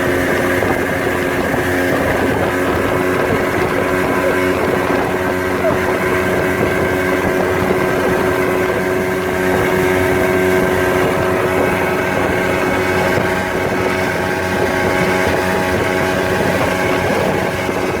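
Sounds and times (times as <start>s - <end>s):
motorboat engine humming: 0.0s - 18.0s
water rushing: 0.0s - 18.0s.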